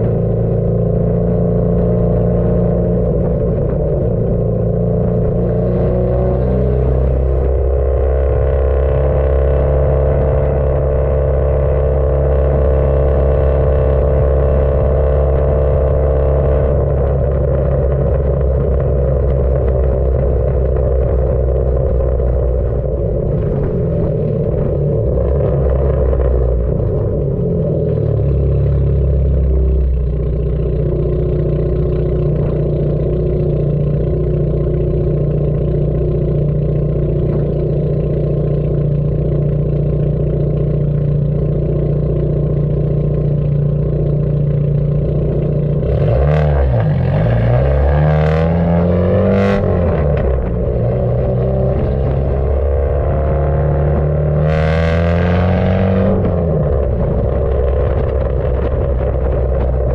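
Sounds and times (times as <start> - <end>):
car exhaust droning: 0.0 - 59.9
road noise: 0.0 - 59.9.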